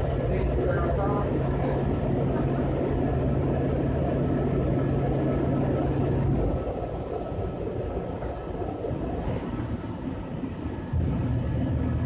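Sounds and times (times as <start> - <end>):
low hum: 0.0 - 12.0
metro railcar rumble: 0.0 - 12.0.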